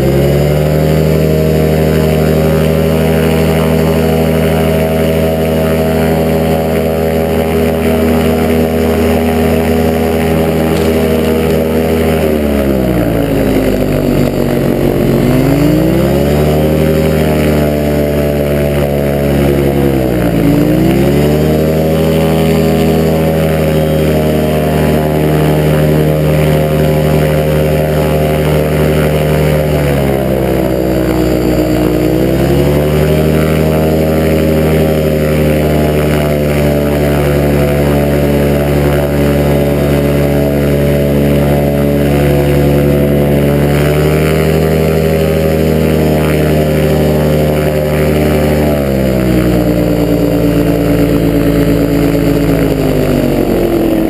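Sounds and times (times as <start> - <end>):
off-road vehicle engine: 0.0 - 54.0.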